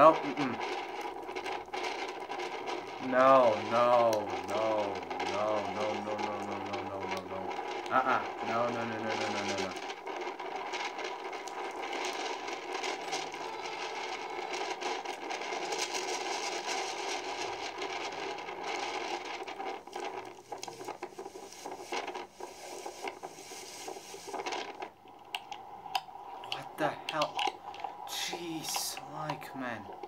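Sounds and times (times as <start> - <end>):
crackles and clicks: 0.0 - 30.0
rushing storm noise: 0.0 - 30.0.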